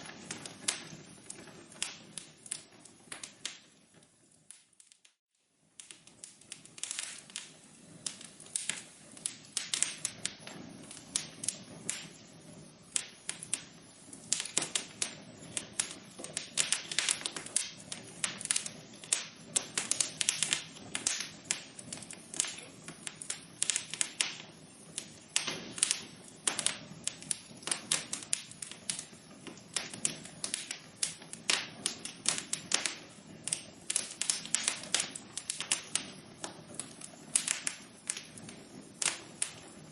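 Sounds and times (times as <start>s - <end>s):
hiss of burning: 0.0s - 39.9s
wood fire crackling and popping: 0.0s - 39.9s.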